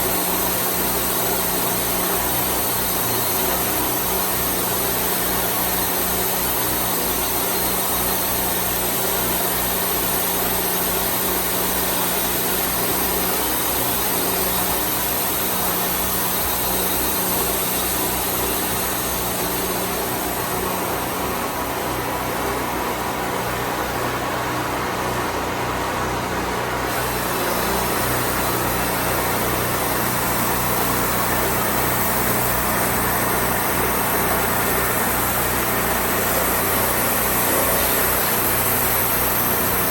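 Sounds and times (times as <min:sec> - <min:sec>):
bandsaw sawmill engine humming: 0:00.0 - 0:39.9.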